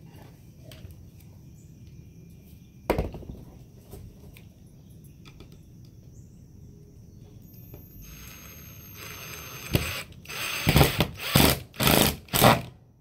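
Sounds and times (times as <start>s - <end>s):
low outdoor background hum: 0.0s - 13.0s.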